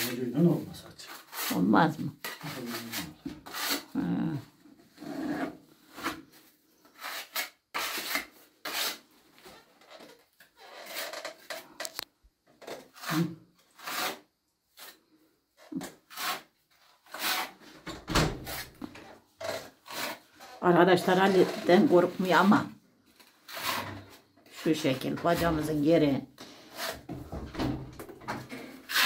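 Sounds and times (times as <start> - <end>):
hand tool scraping filler on wall: 0.0 - 4.0, 4.8 - 29.0.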